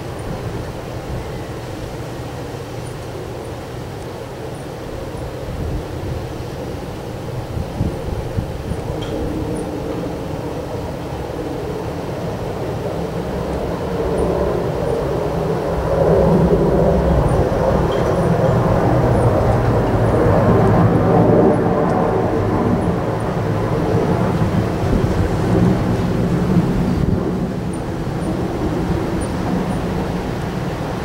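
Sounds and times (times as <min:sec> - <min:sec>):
strong wind gusts: 0:00.0 - 0:31.0.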